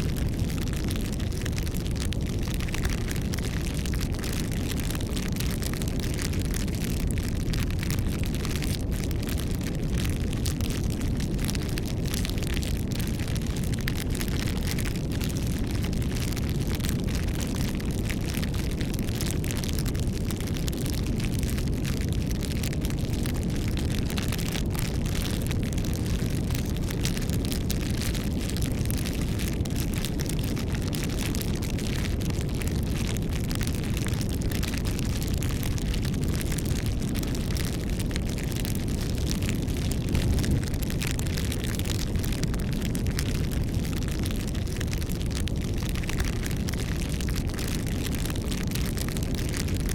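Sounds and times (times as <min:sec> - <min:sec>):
campfire flame rumble: 0:00.0 - 0:49.9
wood crackling and popping: 0:00.0 - 0:49.9.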